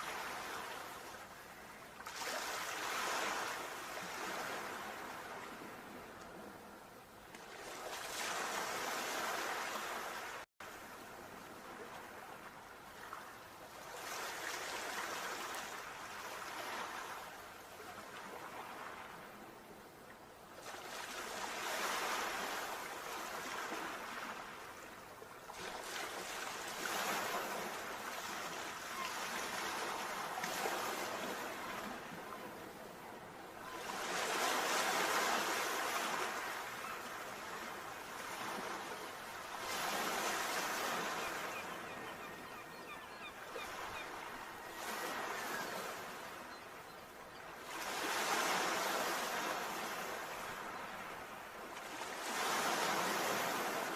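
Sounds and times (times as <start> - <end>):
sea waves breaking on shore: 0.0 - 19.8, 20.4 - 53.9.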